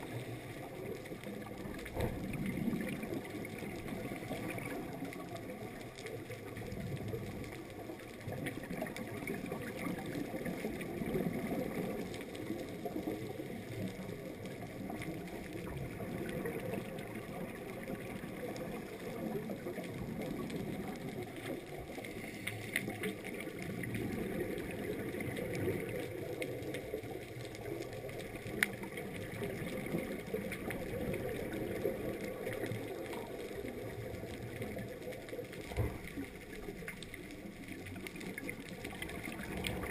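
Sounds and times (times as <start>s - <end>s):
scuba exhaust bubbles rumbling: 0.0s - 39.9s.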